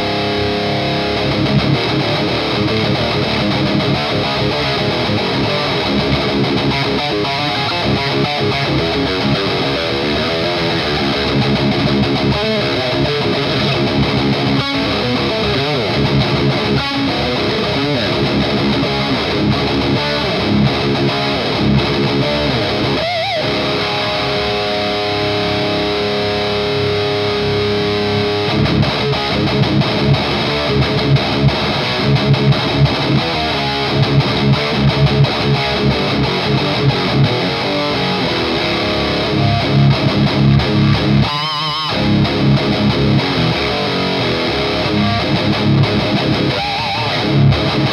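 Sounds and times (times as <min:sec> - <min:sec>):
distorted electric guitar riffing: 0:00.0 - 0:47.9.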